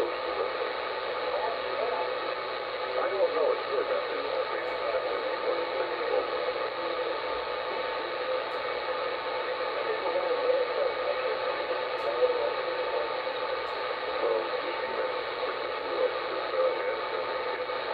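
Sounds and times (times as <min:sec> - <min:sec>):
faint wavering radio signals: 0:00.0 - 0:17.9
radio static: 0:00.0 - 0:17.9.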